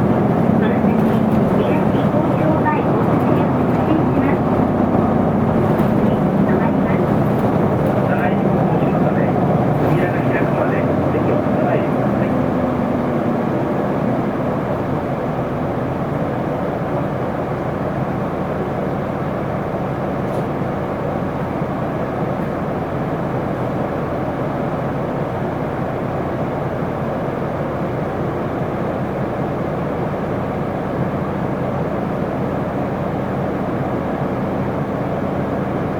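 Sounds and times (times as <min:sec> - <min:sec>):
bus engine hum: 0:00.0 - 0:35.9
road noise: 0:00.0 - 0:35.9.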